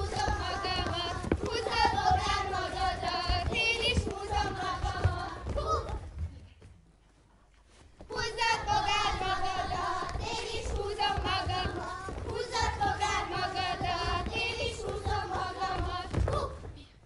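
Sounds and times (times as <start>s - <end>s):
folk dance music: 0.0s - 6.3s, 8.0s - 16.8s.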